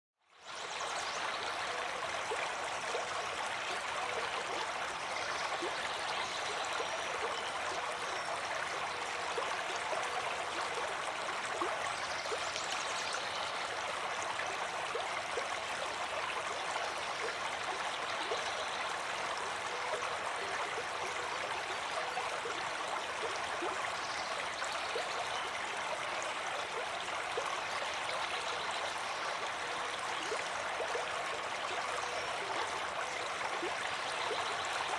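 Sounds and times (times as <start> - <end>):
stream water babbling: 0.3 - 34.9.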